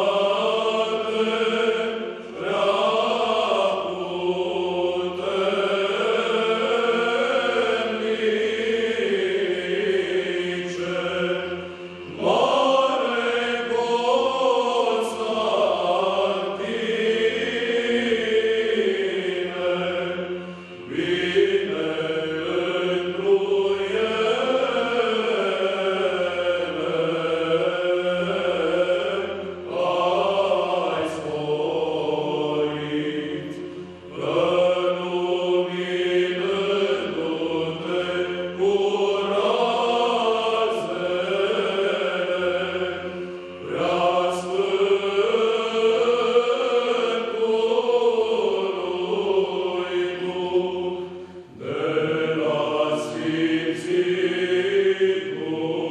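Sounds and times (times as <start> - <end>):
low vocal drone: 0.0 - 55.9
men's choir chanting: 0.0 - 55.9.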